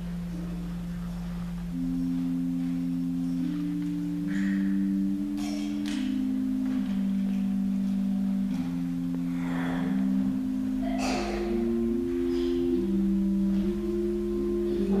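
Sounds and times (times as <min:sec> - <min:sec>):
church organ sustained notes: 0:00.0 - 0:15.0.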